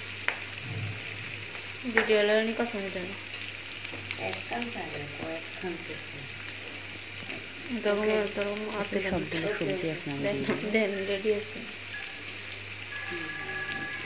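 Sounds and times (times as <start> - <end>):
oil sizzling in a frying pan: 0.0 - 14.0.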